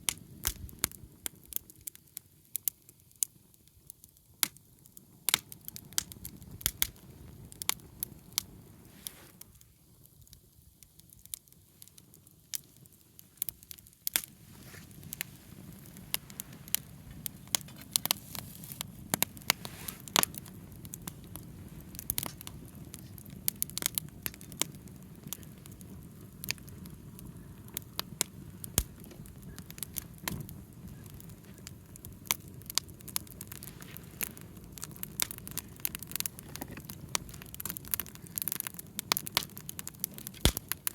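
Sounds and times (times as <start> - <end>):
campfire crackling and popping: 0.0 - 40.9
rush of burning flames: 0.0 - 40.9.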